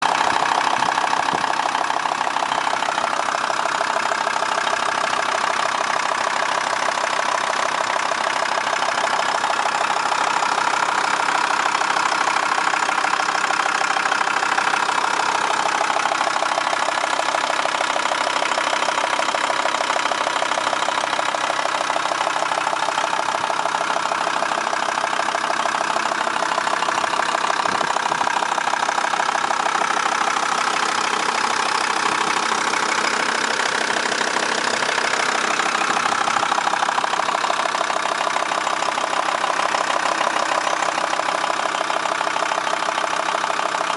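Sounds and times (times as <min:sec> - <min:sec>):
van engine idling: 0:00.0 - 0:43.9.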